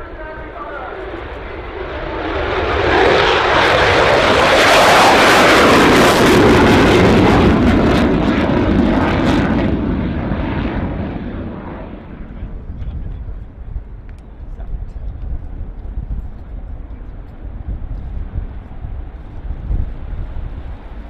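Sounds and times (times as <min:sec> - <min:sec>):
fighter jet engine passing low: 0:00.0 - 0:21.0.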